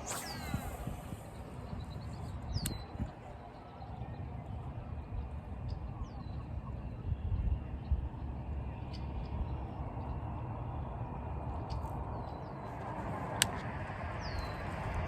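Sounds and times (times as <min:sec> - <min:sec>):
birds chirping: 0:00.0 - 0:13.1, 0:14.0 - 0:14.8
steady low rumble: 0:00.0 - 0:15.0.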